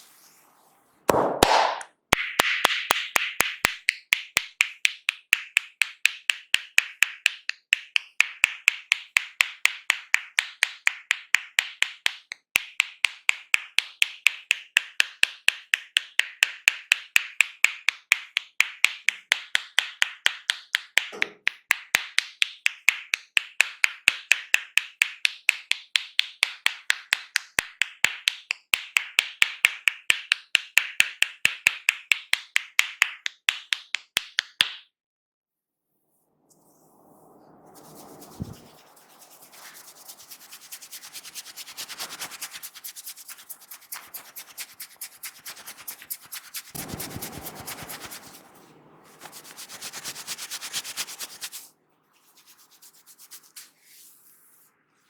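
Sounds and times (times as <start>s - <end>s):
hands slapping in massage: 1.1s - 34.9s, 38.3s - 54.0s.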